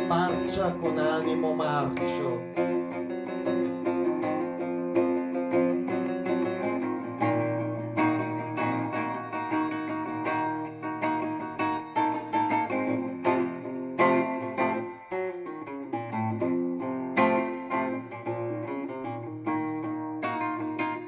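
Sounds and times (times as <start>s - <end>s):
solo guitar picking: 0.0s - 21.0s.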